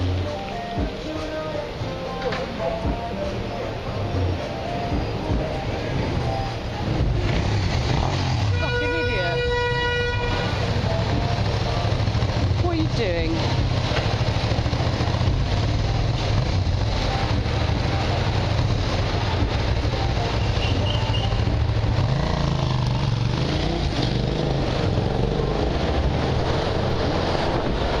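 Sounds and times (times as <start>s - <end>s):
motorcycle idling: 0.0s - 25.6s
road traffic: 0.0s - 28.0s.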